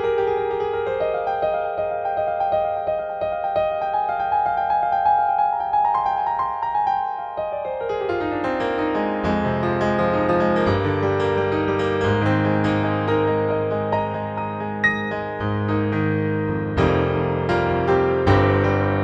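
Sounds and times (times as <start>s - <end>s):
piano-toned keyboard music: 0.0s - 19.0s.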